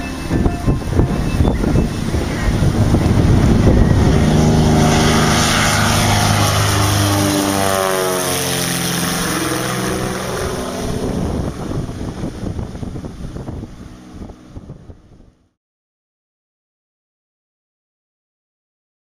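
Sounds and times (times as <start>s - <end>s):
propeller plane drone: 0.0s - 15.6s.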